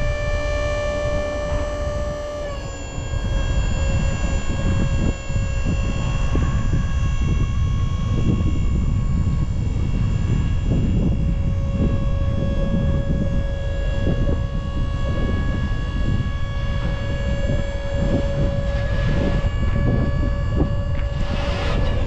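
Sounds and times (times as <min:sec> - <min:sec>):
large engine rumble and whine: 0:00.0 - 0:22.0.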